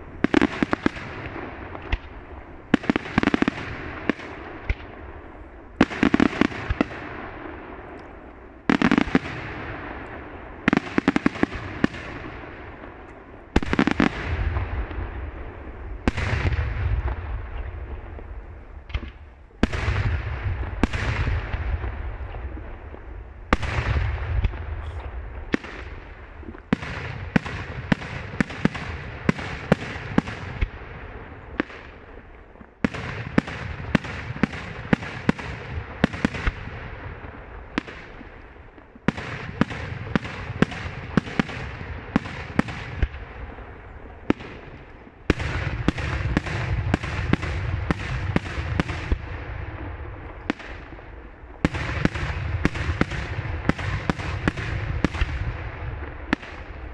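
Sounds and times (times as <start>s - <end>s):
firework bangs: 0.0s - 56.9s
firework crackling: 0.0s - 56.9s.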